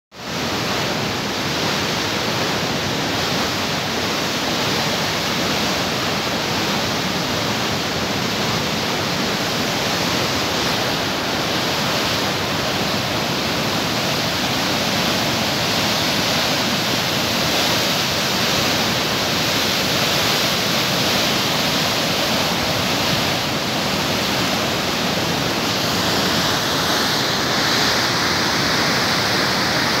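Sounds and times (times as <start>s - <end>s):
water rushing from sluice gates: 0.2s - 30.0s.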